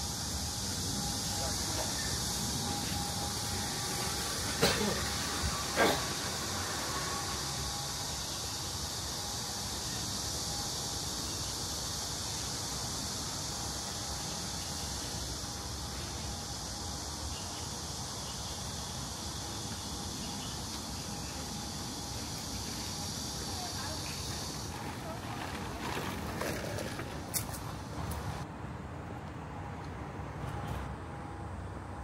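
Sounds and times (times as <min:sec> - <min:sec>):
high-pitched hiss: 0:00.0 - 0:28.5.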